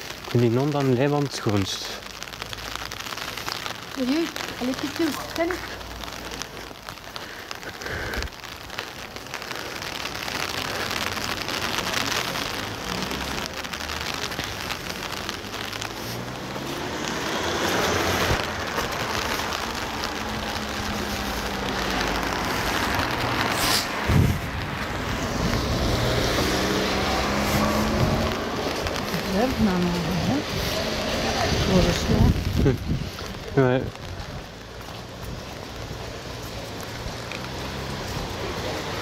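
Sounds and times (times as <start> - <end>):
rain hiss: 0.0 - 39.0.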